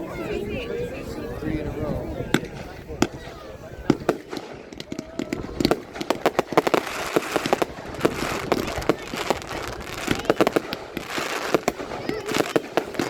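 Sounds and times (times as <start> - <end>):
fireworks banging: 2.0 - 13.0
crackling hiss: 2.4 - 13.0.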